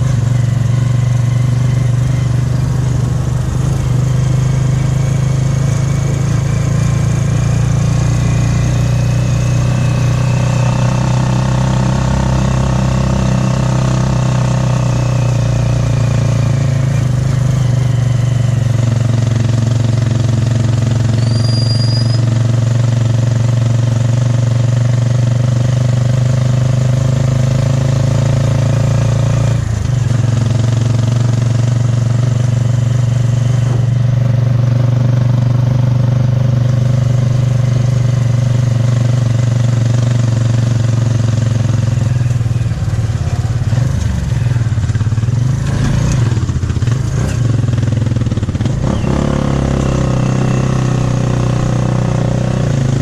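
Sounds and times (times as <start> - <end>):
motorcycle engine droning: 0.0 - 53.0.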